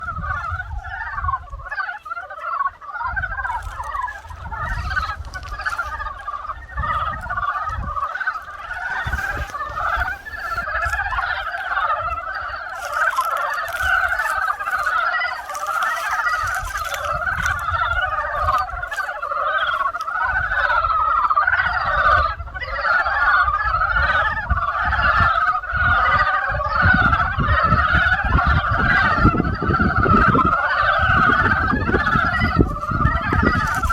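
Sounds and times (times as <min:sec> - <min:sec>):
frogs calling: 0:00.0 - 0:33.9.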